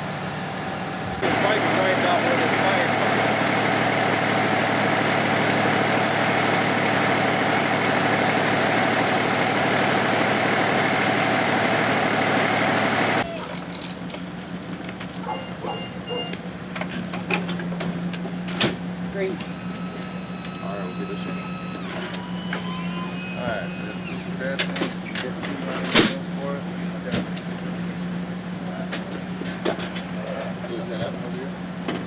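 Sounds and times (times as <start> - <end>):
large truck engine idling: 0.0 - 32.0.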